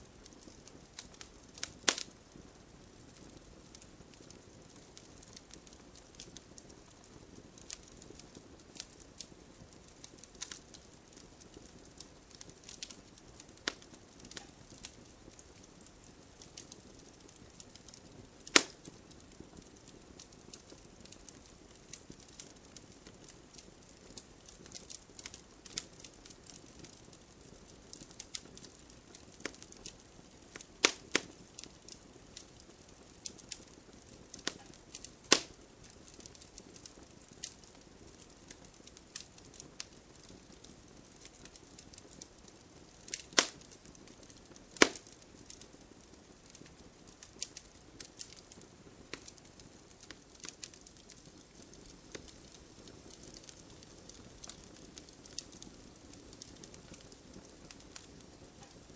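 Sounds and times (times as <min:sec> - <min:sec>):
faint rain patter: 0:00.0 - 0:58.9
wood fire crackling and popping: 0:00.0 - 0:58.9.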